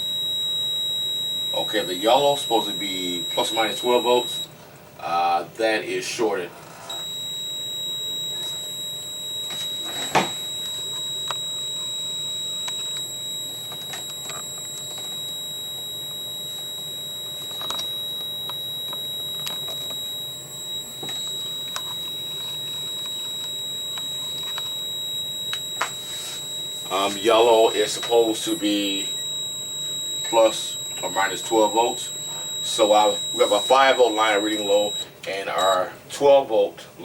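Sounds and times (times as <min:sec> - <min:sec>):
multimeter continuity beep tone: 0:00.0 - 0:04.5, 0:06.9 - 0:36.0.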